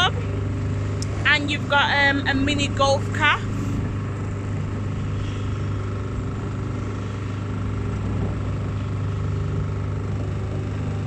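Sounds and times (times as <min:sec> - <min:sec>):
motor boat engine running: 0:00.0 - 0:11.0.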